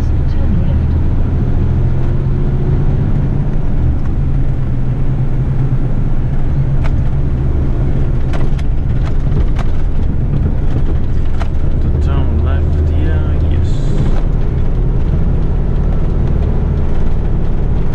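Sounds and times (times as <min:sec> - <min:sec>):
diesel truck engine droning: 0:00.0 - 0:17.9.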